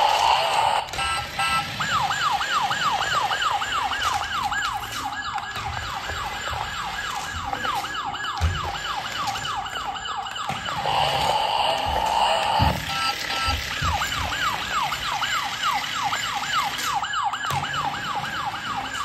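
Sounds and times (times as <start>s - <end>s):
toy electronic siren wailing: 0.0s - 19.0s.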